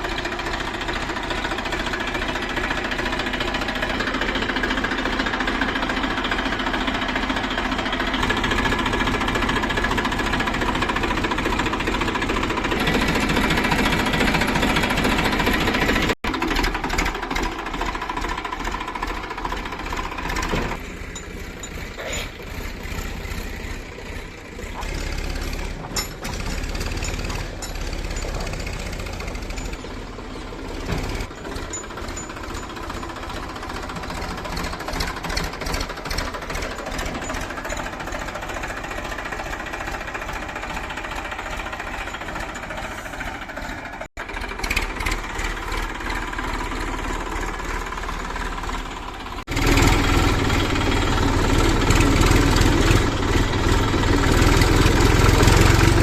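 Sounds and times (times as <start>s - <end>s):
heavy diesel engine knocking: 0.0s - 56.0s.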